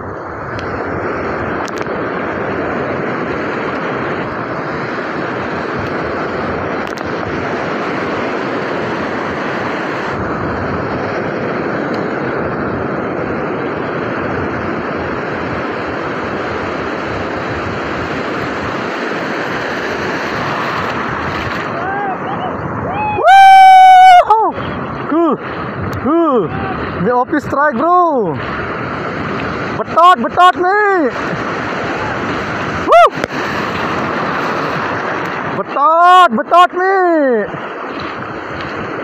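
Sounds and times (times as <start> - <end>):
wind buffeting microphone: 0.0 - 35.8, 37.2 - 39.0
ocean surf washing: 0.0 - 39.0.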